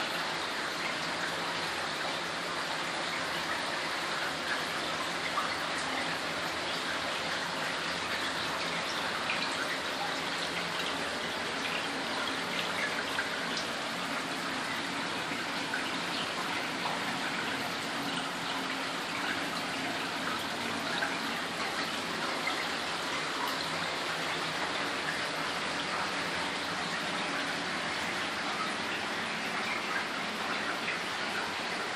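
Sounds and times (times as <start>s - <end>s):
small water splashes: 0.0s - 31.9s
stream trickling over rocks: 0.0s - 31.9s.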